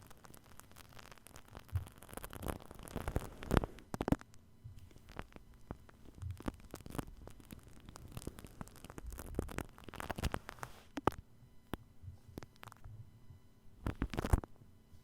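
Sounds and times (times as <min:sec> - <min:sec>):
shaving cream crackling: 0:00.0 - 0:11.2, 0:12.4 - 0:12.8, 0:13.9 - 0:14.4.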